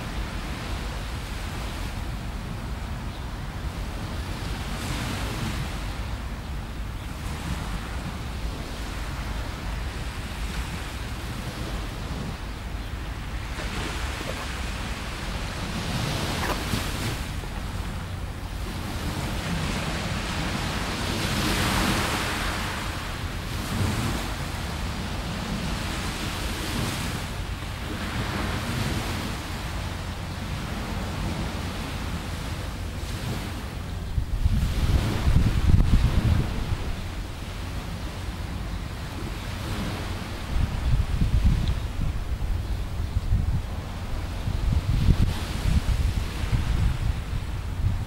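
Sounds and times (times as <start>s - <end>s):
waves washing onto beach: 0.0s - 48.0s
wind rumbling on microphone: 0.0s - 48.0s.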